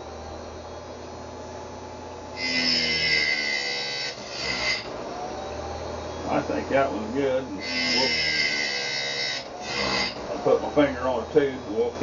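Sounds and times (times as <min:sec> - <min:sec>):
electric motor humming: 0:00.0 - 0:12.0
grinding wheel grinding metal: 0:02.1 - 0:12.0.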